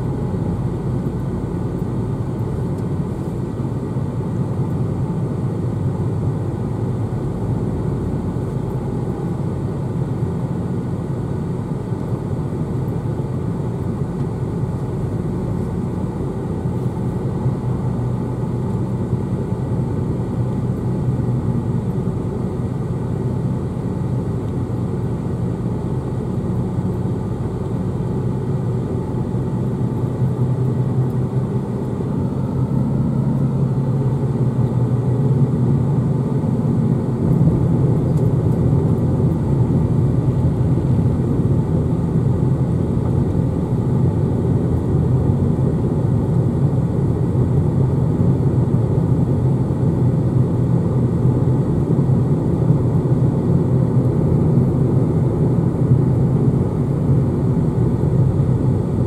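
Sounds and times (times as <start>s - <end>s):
car engine hum: 0.0s - 59.0s.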